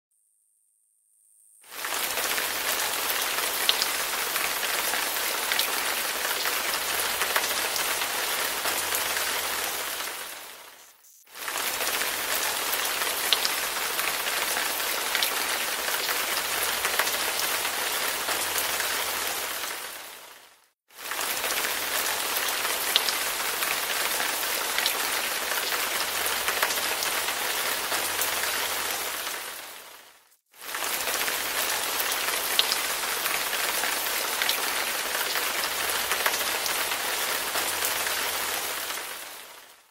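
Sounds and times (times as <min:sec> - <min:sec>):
rain falling: 0:01.6 - 0:39.9.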